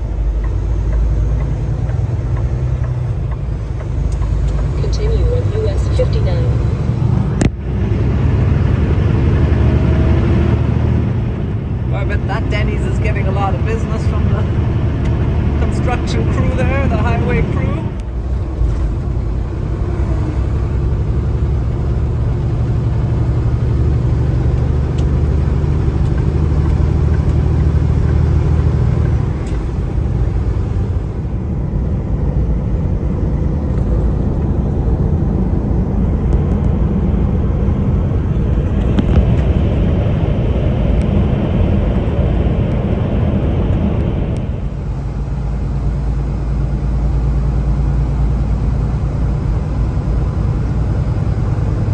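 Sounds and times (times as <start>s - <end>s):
road noise: 0.0s - 51.9s
truck engine drone: 0.0s - 51.9s.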